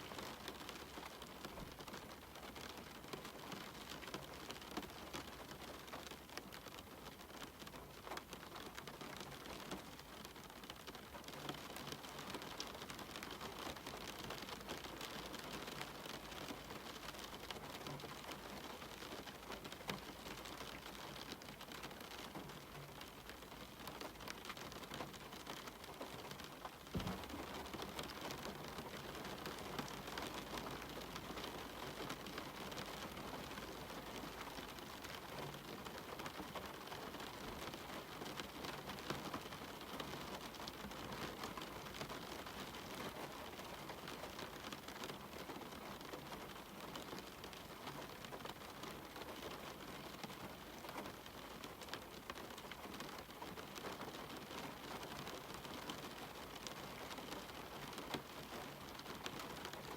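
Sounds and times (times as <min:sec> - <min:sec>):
raindrops ticking on window: 0:00.0 - 0:59.9
steady rain: 0:00.0 - 0:59.9.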